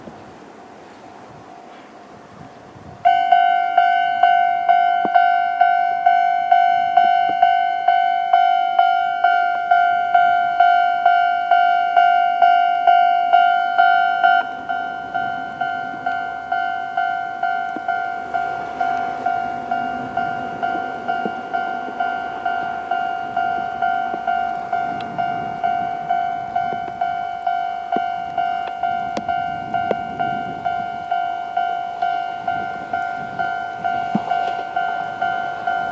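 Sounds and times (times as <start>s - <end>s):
level crossing alarm dinging: 3.0s - 35.9s.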